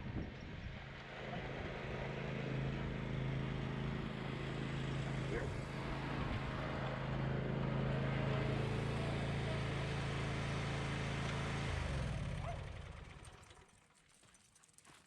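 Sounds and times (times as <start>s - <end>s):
riding mower engine running: 0.0s - 14.1s.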